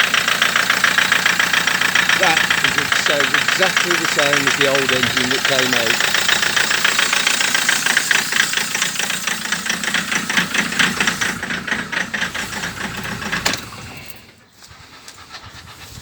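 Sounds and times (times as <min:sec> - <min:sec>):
diesel engine idling with rattle: 0:00.0 - 0:16.0.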